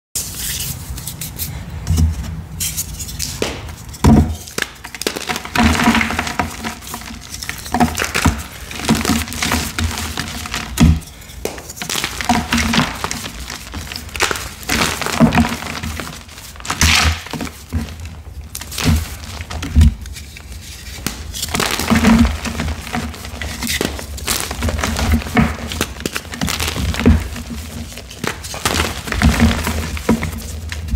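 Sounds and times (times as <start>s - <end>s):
chalk blocks crunching and cracking: 2.6s - 30.9s
powdery crumbling: 3.4s - 30.9s.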